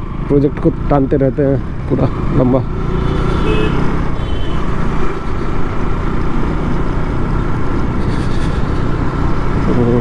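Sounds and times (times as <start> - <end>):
motorcycle engine running: 0.0 - 10.0
traffic noise: 0.0 - 10.0.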